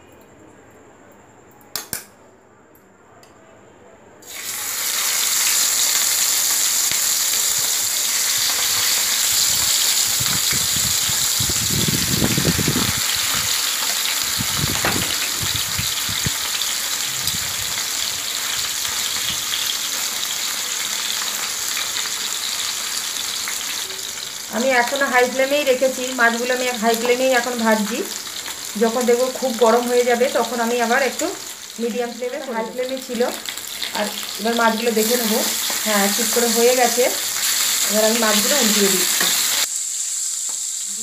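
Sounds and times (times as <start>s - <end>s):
fish sizzling in hot oil: 4.2s - 41.0s.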